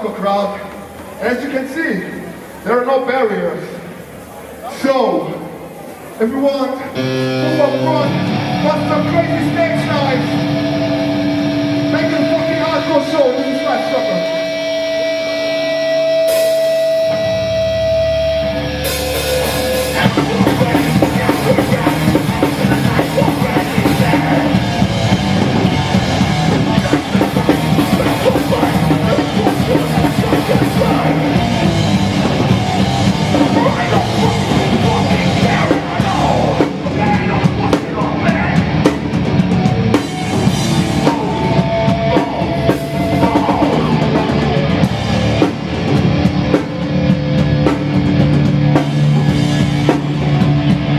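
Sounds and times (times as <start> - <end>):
punk band playing live: 6.9 - 50.9.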